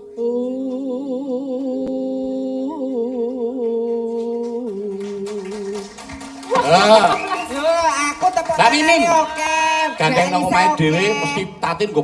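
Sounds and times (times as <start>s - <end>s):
woman singing with vibrato: 0.0s - 8.2s, 9.0s - 11.6s.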